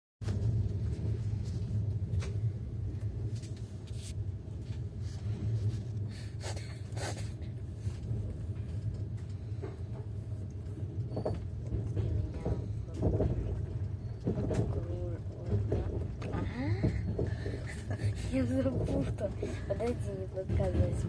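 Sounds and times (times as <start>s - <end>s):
train rumbling from inside: 0.2s - 21.0s.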